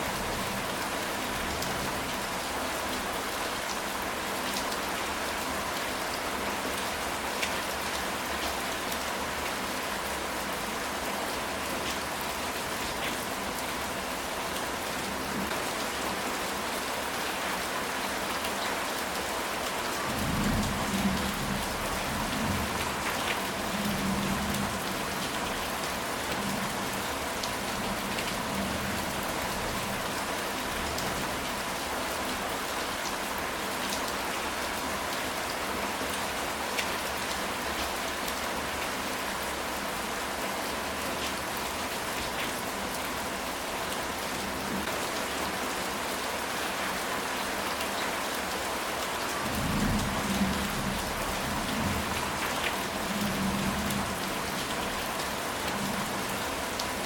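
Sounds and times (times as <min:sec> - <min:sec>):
rain falling on a tile roof: 0:00.0 - 0:57.0.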